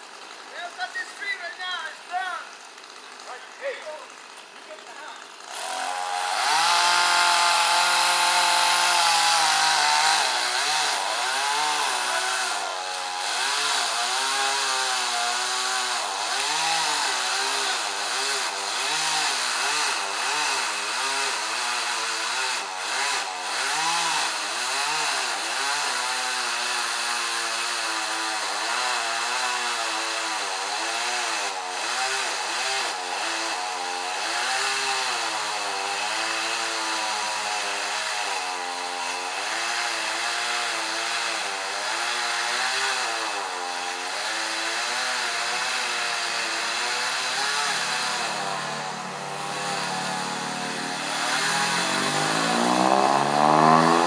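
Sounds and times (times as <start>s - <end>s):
chainsaw cutting into tree trunk: 0.0s - 54.0s.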